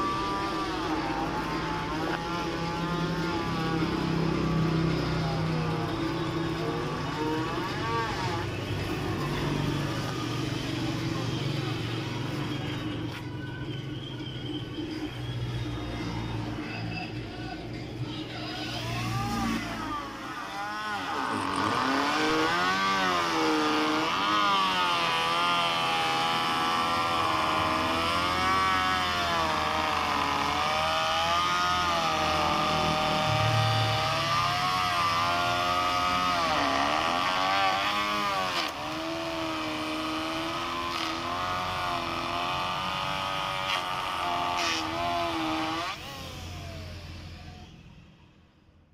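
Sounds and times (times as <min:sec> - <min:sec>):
electric planer cutting wood: 0:00.0 - 0:11.8, 0:18.8 - 0:47.7.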